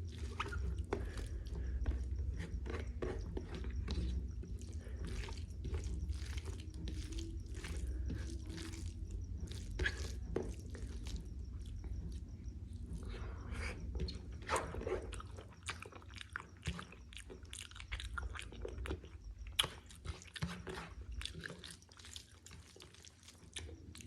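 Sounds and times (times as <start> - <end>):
low steady hum: 0.0 - 19.6
person chewing food: 0.0 - 24.0.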